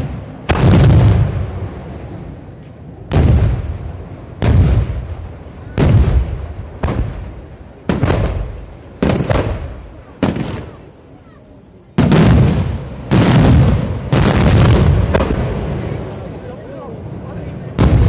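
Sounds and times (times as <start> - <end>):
fireworks booming with echo: 0.0 - 18.0.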